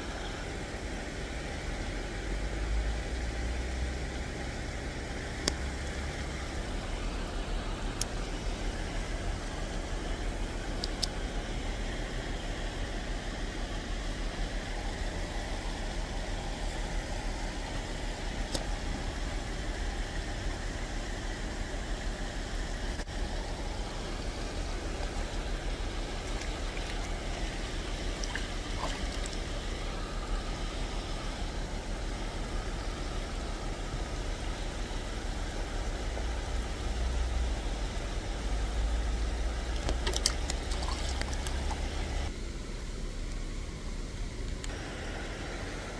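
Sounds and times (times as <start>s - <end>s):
outdoor background rumble: 0.0s - 45.9s.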